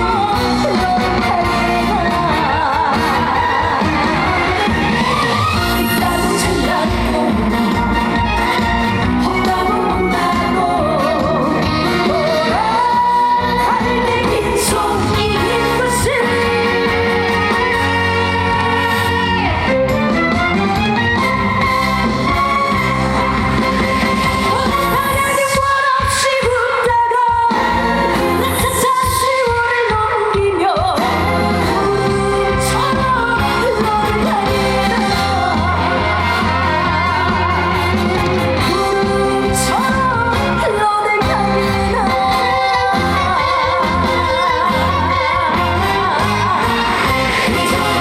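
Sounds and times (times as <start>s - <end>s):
person singing with vibrato: 0.0s - 20.0s, 22.3s - 48.0s
amplified backing track: 0.0s - 48.0s.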